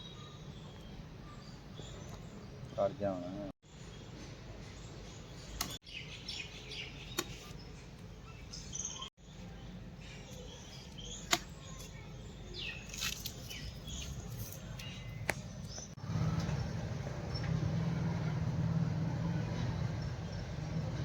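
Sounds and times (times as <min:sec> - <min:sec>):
small birds chirping: 0:00.0 - 0:18.2.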